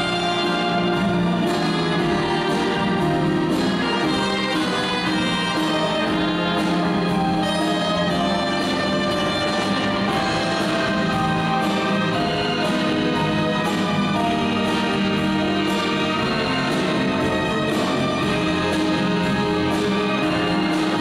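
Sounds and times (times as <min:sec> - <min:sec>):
symphony orchestra playing: 0:00.0 - 0:21.0.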